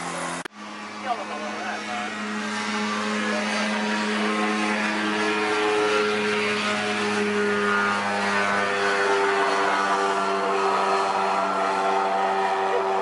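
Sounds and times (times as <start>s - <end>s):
aircraft engine and propeller droning: 0.0s - 13.0s.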